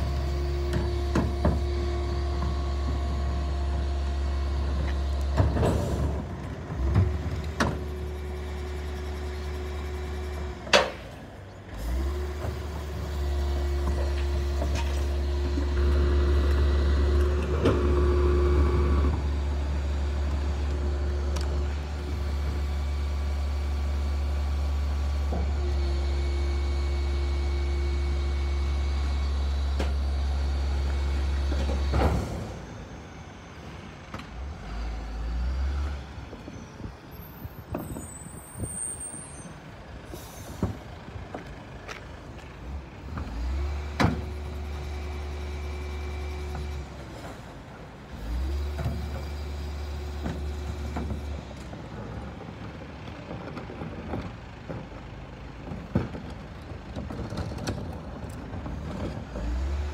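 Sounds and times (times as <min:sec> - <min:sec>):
garbage truck engine hum: 0:00.0 - 0:59.9.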